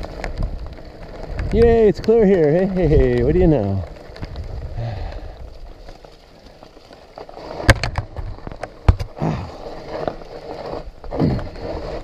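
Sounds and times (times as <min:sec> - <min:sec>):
bicycle ride rattle: 0:00.0 - 0:12.0.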